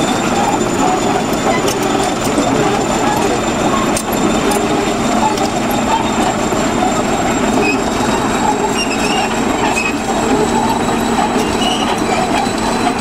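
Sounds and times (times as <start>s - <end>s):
bulldozer diesel engine: 0.0s - 13.0s
steel tracks over rubble: 0.0s - 13.0s.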